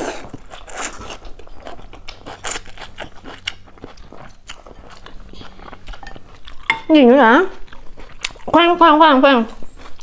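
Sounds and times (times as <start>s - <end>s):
wet chewing: 0.0s - 10.0s.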